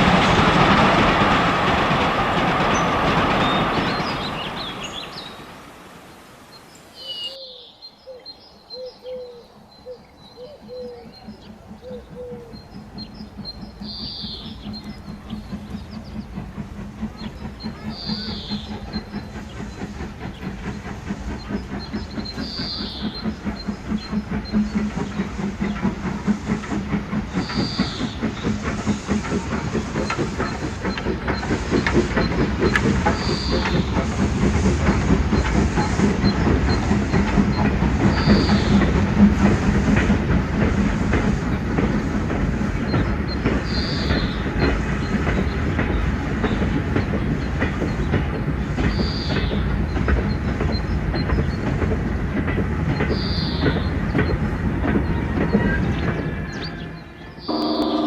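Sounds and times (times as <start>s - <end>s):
train clattering over track: 0.0s - 58.0s.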